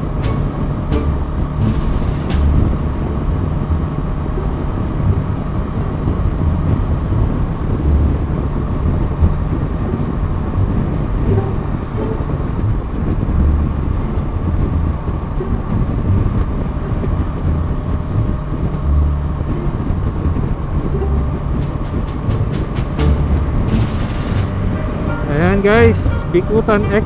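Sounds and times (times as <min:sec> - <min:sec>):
motorcycle engine cruising: 0:00.0 - 0:27.0
wind rumble on microphone: 0:00.0 - 0:27.0.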